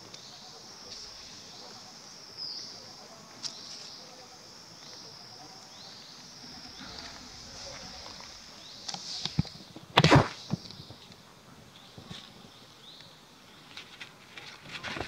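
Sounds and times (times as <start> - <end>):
high-pitched insect chorus: 0.0 - 13.3.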